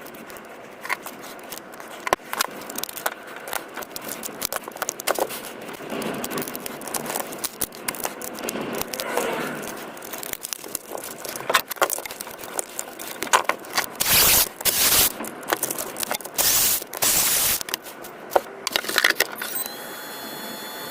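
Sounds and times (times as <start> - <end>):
battery pack parts clicking and scraping: 0.0 - 19.7.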